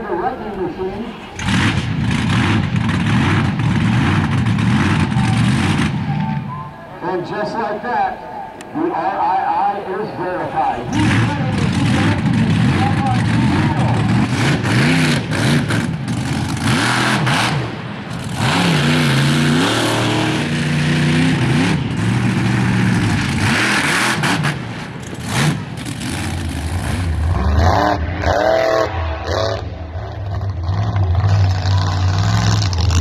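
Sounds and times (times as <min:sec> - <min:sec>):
monster truck engine revving: 0:01.0 - 0:06.3, 0:10.7 - 0:33.0.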